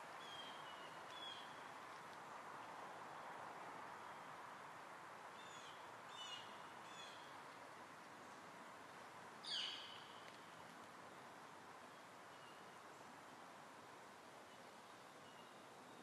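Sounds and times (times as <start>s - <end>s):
quiet hiss: 0.0s - 16.0s.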